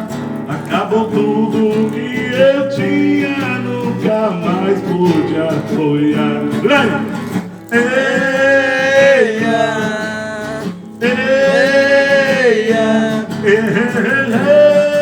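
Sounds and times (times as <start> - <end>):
acoustic guitar: 0.0 - 15.0
man singing held notes: 0.0 - 15.0.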